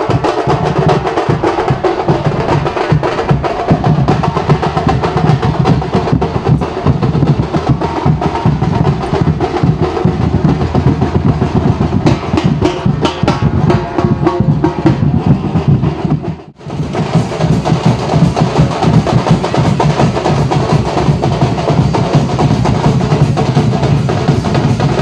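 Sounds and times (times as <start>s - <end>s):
barrel drums beaten fast: 0.0s - 25.0s.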